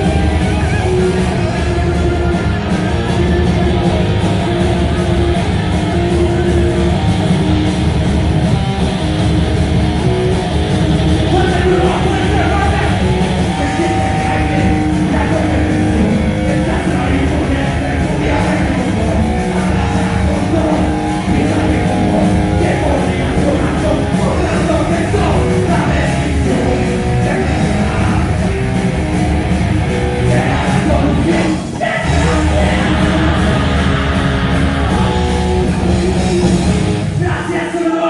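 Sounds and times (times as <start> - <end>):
rock band playing heavy rock: 0.0 - 38.0.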